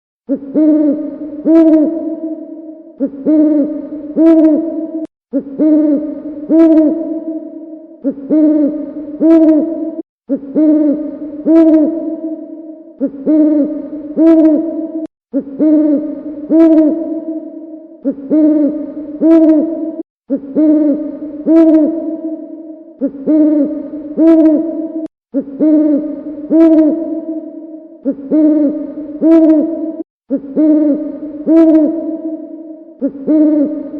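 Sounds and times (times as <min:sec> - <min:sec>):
owl hooting: 0:00.3 - 0:33.9.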